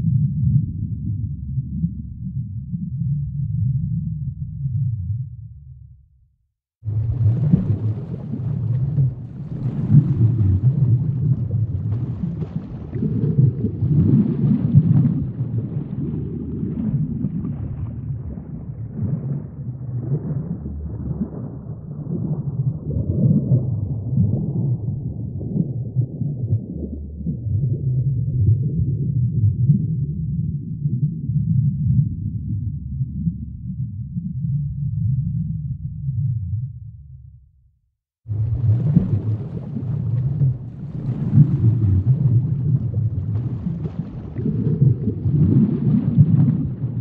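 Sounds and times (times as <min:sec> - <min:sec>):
deep low rumble: 0:00.0 - 0:06.3, 0:06.9 - 0:37.7, 0:38.3 - 0:47.0.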